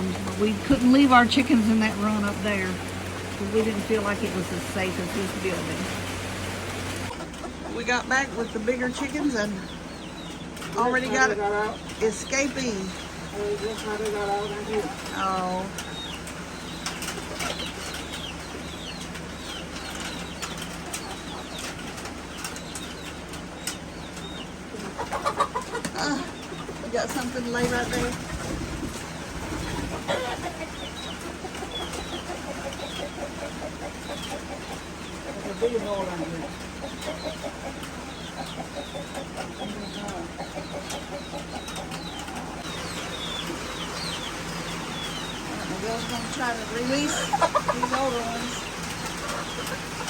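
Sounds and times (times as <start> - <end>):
chickens clucking: 0.0 - 50.0
chicks peeping: 0.0 - 50.0
steady low hum: 0.0 - 50.0.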